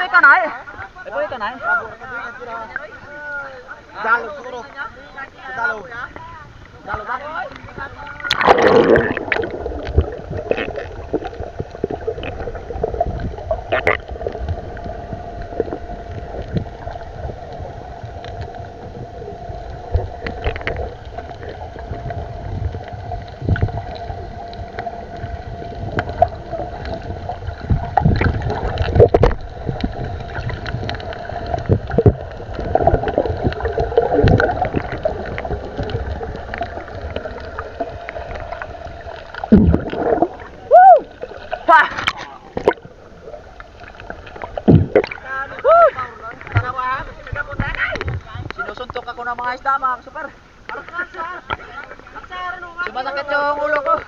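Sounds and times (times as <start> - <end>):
underwater hum: 0.0 - 54.0
underwater water noise: 0.0 - 54.0
knocks and gurgling underwater: 6.1 - 49.6.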